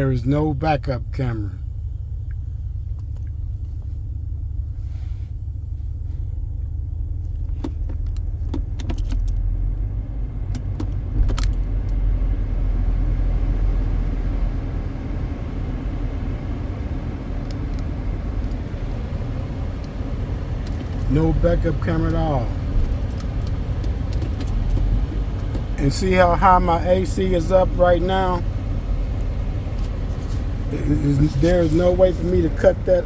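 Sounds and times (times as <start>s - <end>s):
car air conditioning blower rumble: 0.0s - 33.0s.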